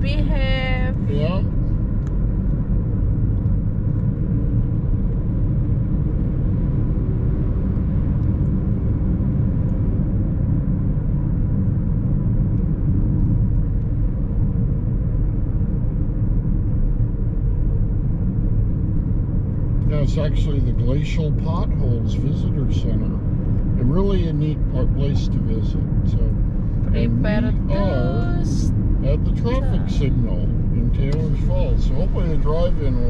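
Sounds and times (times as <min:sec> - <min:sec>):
car cabin road rumble: 0:00.0 - 0:33.0.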